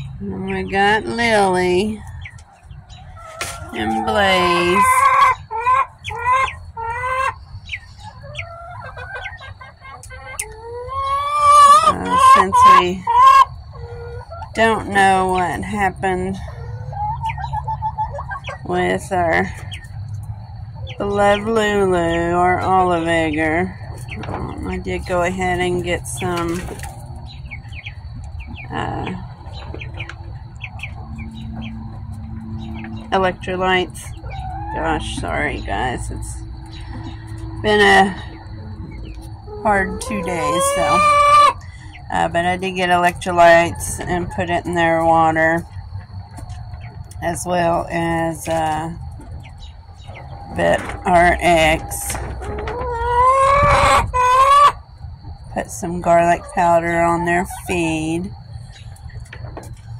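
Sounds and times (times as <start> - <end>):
chicks chirping and clucking: 0.0 - 59.9
young chickens calling: 0.0 - 59.9.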